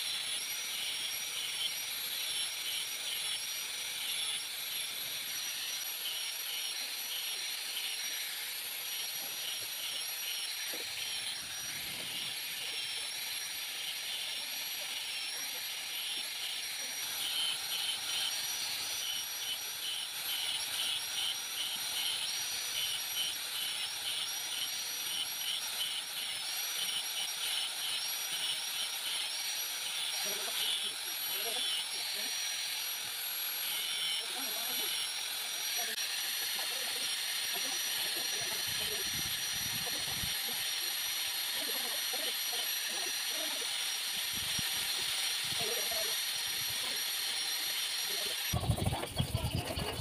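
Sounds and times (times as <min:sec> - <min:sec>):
angle grinder whining: 0:00.0 - 0:50.0
grinder disc rasping wood: 0:00.0 - 0:50.0.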